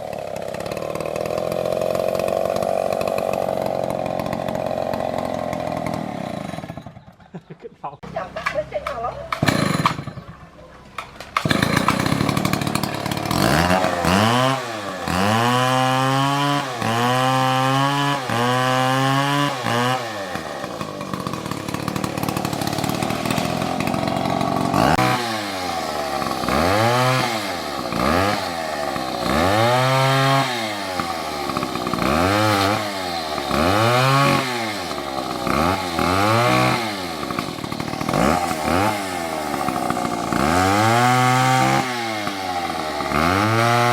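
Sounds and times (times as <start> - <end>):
chainsaw engine revving: 0.0 - 7.4, 8.1 - 43.9.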